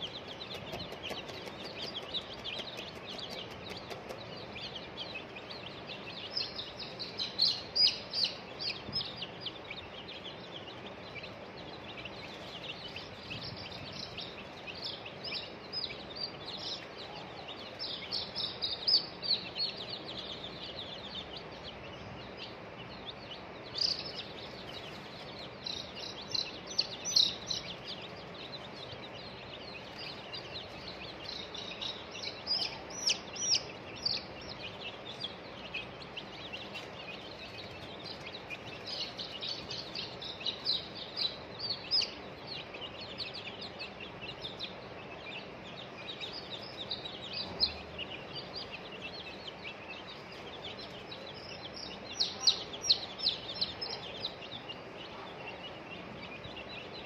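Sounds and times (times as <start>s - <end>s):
baby chicks peeping: 0.0s - 57.0s
steady background noise: 0.0s - 57.0s.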